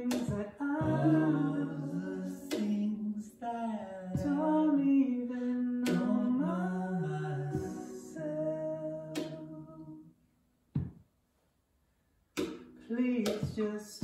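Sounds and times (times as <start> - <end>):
person singing slow melody: 0.0 - 10.2, 12.7 - 14.0
acoustic guitar: 0.0 - 11.0, 12.4 - 14.0.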